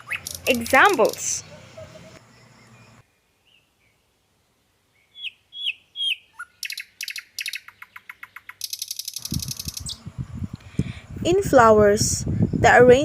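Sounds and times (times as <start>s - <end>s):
songbird chirps and trill: 0.0s - 13.0s.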